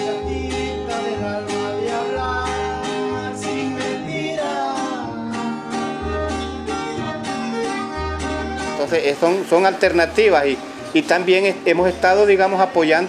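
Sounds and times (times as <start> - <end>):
music with plucked strings and beat: 0.0 - 13.0.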